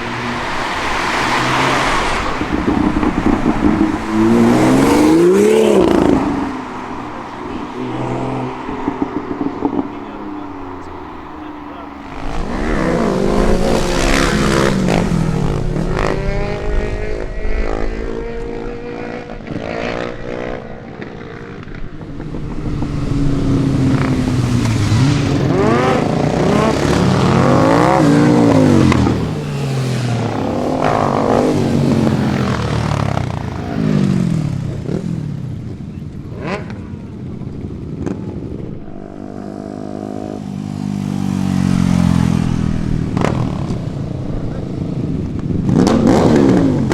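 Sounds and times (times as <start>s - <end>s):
car engines revving: 0.0s - 46.9s
motorcycle engines revving: 0.0s - 46.9s.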